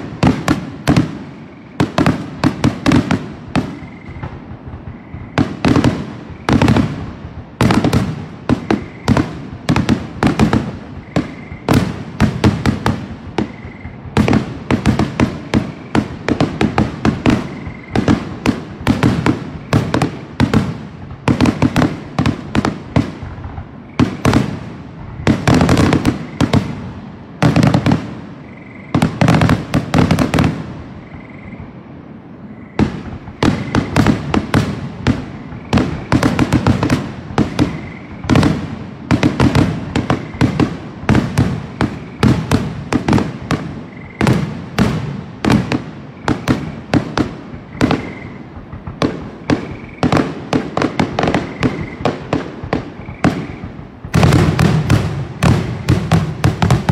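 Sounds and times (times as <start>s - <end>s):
fireworks launching and bursting: 0.0s - 56.9s.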